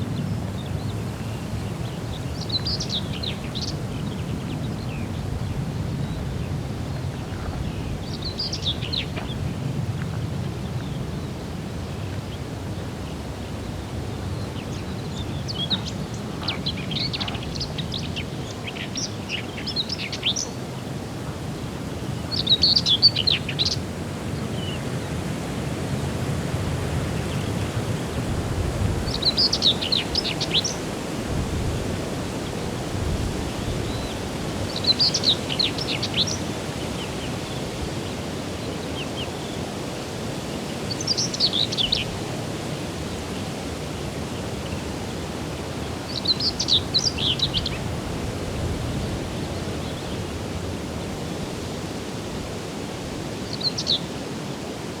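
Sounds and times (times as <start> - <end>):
songbird singing: 0.0 - 25.2, 26.8 - 39.7, 40.3 - 42.4, 44.4 - 51.5, 53.4 - 54.2.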